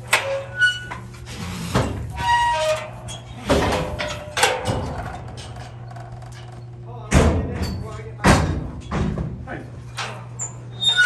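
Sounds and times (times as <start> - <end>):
metal gates clanging and rattling: 0.0 - 9.2, 9.8 - 11.0.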